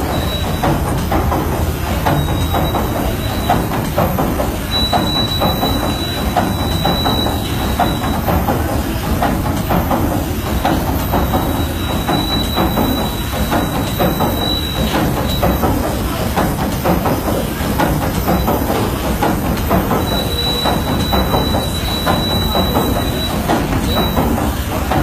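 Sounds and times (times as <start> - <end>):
steam engine rumbling and clattering: 0.0 - 25.0.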